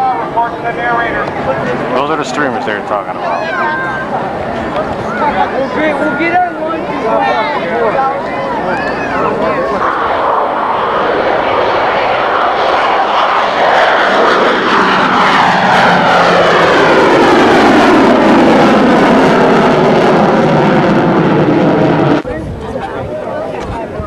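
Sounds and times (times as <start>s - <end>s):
jet flying past: 0.0s - 24.0s.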